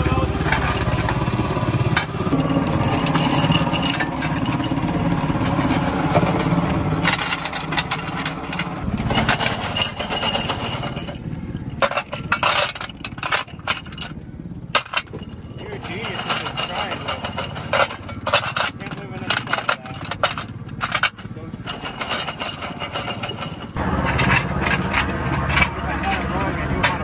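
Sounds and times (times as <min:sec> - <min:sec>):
helicopter rotor chopping: 0:00.0 - 0:27.0.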